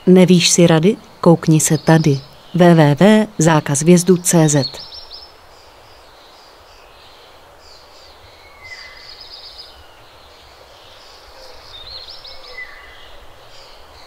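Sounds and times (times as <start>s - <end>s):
small birds singing: 0.0s - 14.0s.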